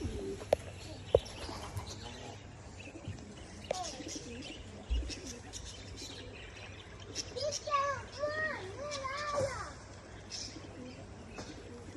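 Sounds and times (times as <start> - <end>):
pigeons cooing: 0.0 - 11.9
small birds chirping: 0.0 - 11.9.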